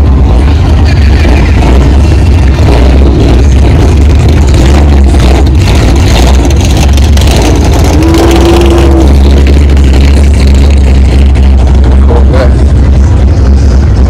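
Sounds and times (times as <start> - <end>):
car engine at high revs: 0.0 - 14.0
steady tone: 0.0 - 14.0.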